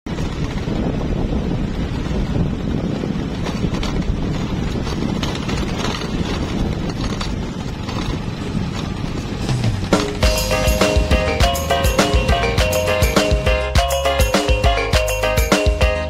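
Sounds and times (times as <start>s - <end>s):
wind buffeting microphone: 0.1s - 13.6s.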